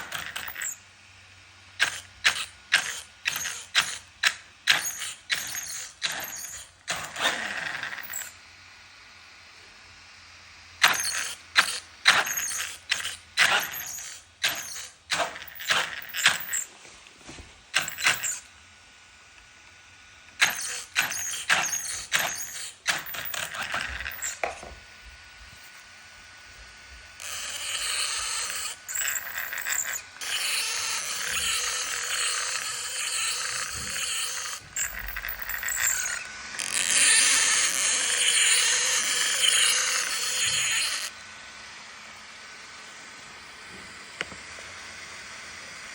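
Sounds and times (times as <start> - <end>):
toy car motor whirring: 0.0 - 8.5, 10.7 - 16.8, 17.6 - 41.2.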